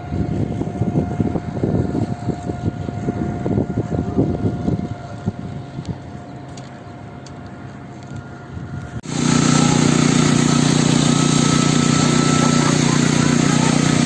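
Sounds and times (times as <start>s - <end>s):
concrete pump running: 0.0s - 14.0s.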